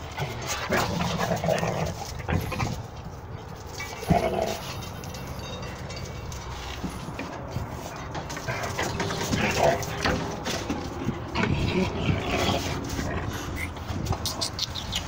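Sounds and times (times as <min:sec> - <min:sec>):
dogs playing roughly: 0:00.0 - 0:15.0.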